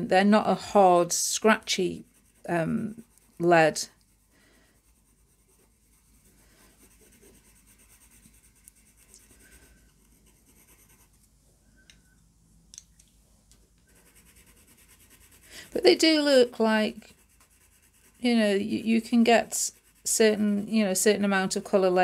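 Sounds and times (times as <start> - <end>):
pencil scratching on paper: 0.3 - 11.2, 13.9 - 22.0.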